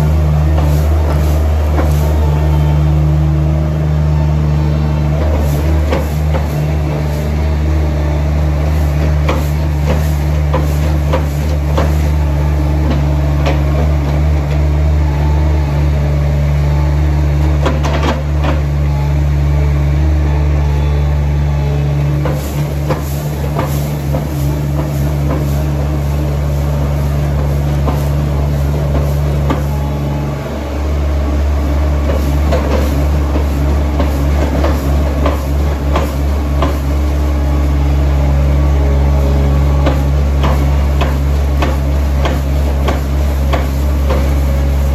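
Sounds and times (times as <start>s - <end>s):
heavy vehicle engine running: 0.0s - 44.9s.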